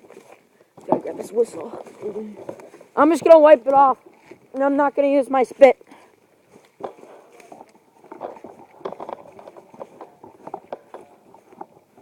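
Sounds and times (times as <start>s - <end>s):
faint rustling: 0.0s - 12.0s.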